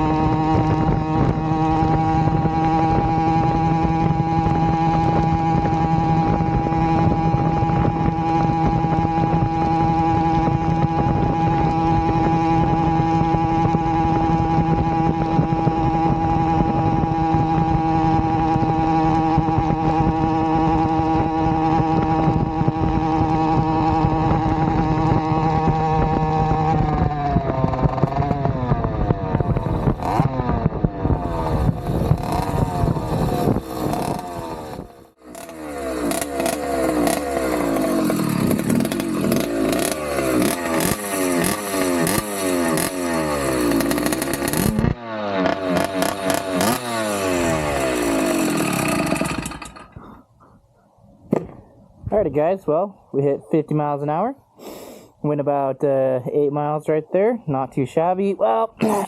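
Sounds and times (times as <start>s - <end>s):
two-stroke bicycle engine running: 0.0s - 50.2s.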